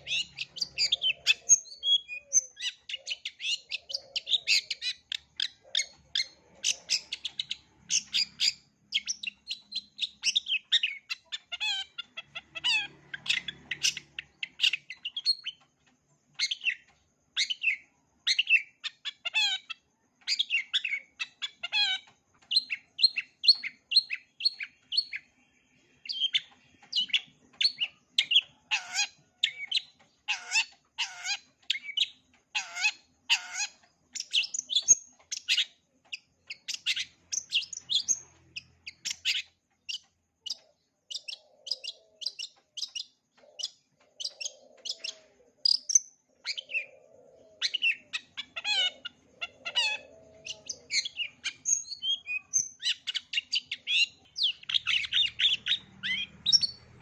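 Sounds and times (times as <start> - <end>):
shrike singing chirps and whistles: 0.0 - 15.6, 16.3 - 57.0.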